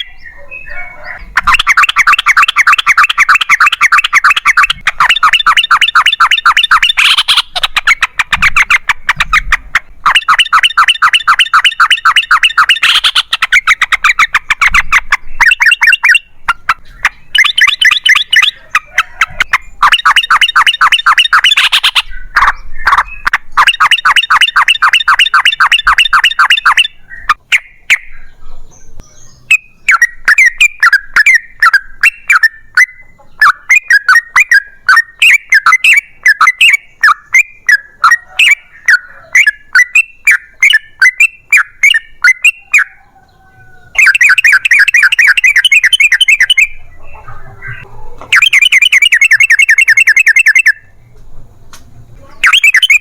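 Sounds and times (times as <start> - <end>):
bird singing chattering notes: 0.0 - 53.0.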